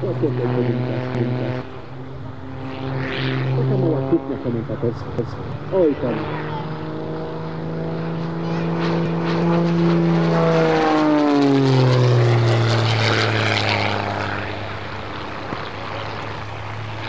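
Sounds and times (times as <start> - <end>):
propeller plane droning past: 0.0 - 17.0.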